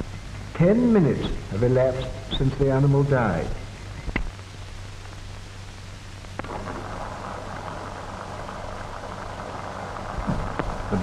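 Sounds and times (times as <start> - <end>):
film soundtrack hiss and crackle: 0.0 - 11.0
low mains hum: 0.0 - 11.0.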